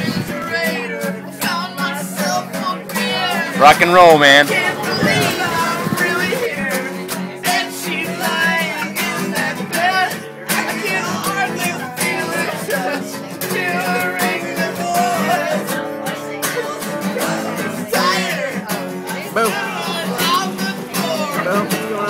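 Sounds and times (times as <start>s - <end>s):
song with guitar: 0.0s - 22.0s.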